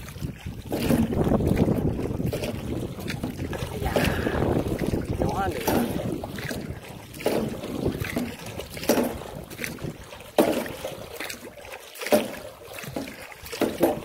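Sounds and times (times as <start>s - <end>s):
oar strokes splashing in water: 0.0s - 14.0s.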